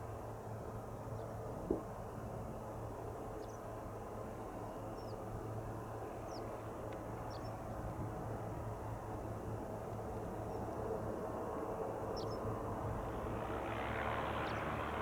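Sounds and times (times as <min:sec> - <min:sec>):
distant piston engine aircraft drone: 0:00.0 - 0:15.0.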